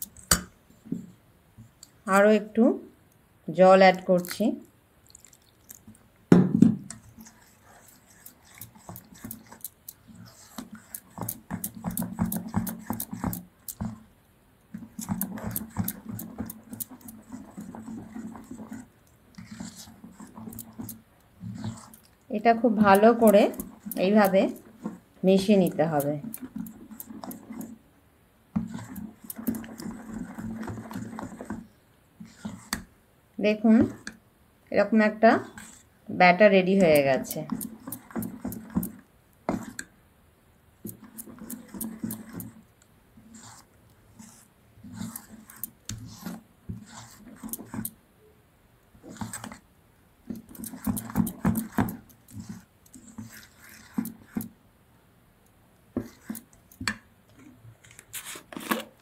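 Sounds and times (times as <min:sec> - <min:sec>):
metal spoon stirring batter in bowl: 0:00.0 - 0:01.1, 0:03.6 - 0:06.1, 0:06.8 - 0:27.9, 0:28.5 - 0:34.2, 0:34.8 - 0:40.0, 0:40.8 - 0:48.0, 0:49.0 - 0:54.6, 0:55.9 - 0:57.5.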